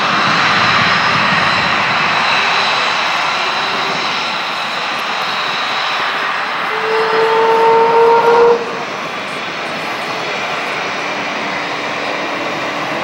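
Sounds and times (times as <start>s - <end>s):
jet engine roar with high whine: 0.0s - 13.0s.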